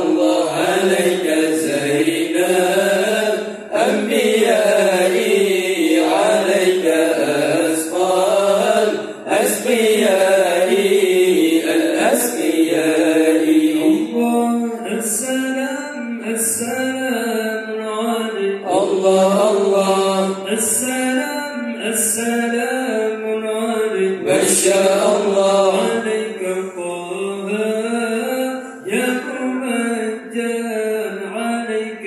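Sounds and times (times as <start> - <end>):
men chanting into microphones: 0.0 - 32.0.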